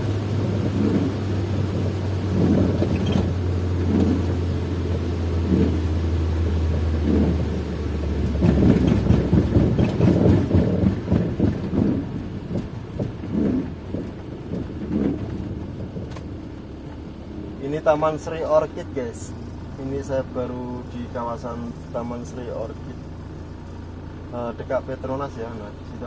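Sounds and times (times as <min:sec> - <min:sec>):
car engine drone: 0:00.0 - 0:26.0
road and rain rumbling: 0:00.0 - 0:26.0.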